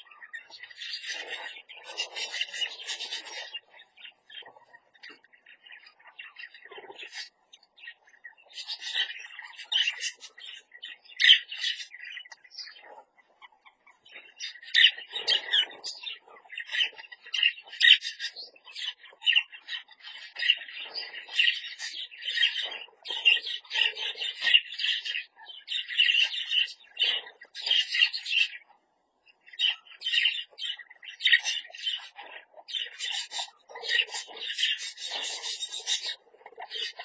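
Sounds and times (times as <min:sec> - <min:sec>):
budgerigars chattering: 0:00.0 - 0:37.0.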